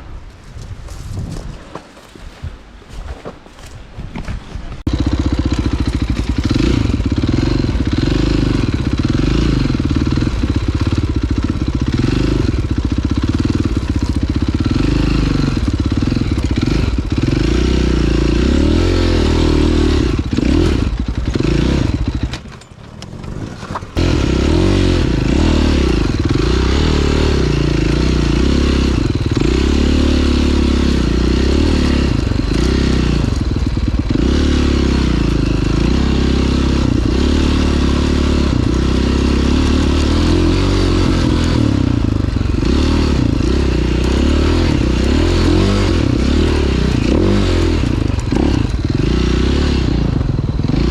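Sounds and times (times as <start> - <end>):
dirt bike engine revving: 0.4 - 22.5, 23.1 - 50.9.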